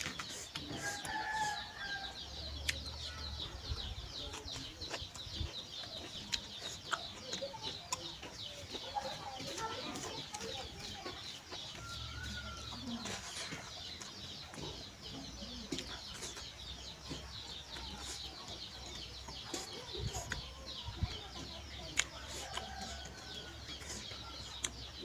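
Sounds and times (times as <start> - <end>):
birds chirping: 0.0 - 25.0
chickens clucking: 0.0 - 25.0.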